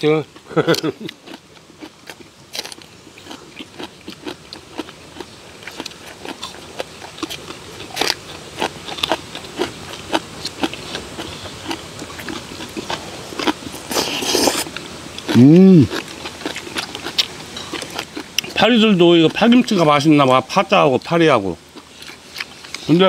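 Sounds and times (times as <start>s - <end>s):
people chewing and lip-smacking: 0.3s - 18.6s, 21.0s - 23.0s.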